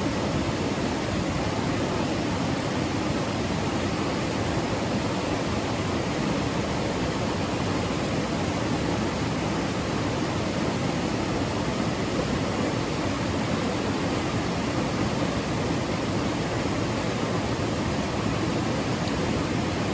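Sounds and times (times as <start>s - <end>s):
rushing water: 0.0s - 19.9s.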